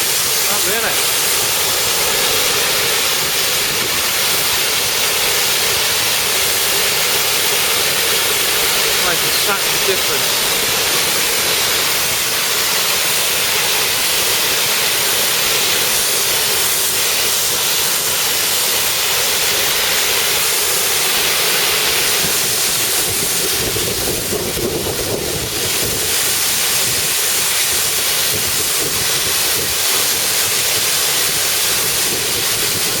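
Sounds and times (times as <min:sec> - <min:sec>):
pressure washer spraying water: 0:00.0 - 0:33.0.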